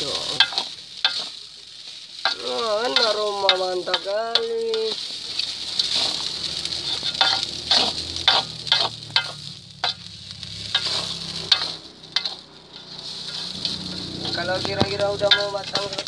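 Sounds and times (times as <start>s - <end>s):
rice sizzling in a wok: 0.0s - 16.0s
spatula scraping a wok: 0.0s - 16.0s.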